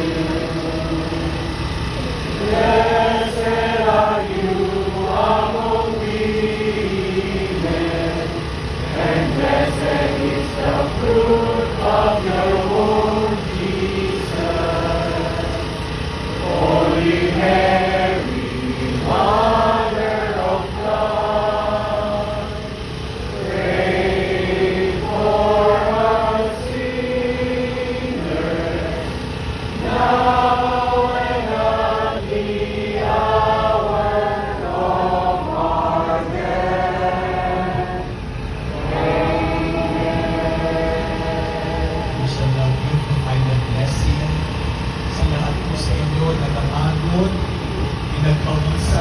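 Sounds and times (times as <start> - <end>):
choir singing a hymn: 0.0 - 44.2.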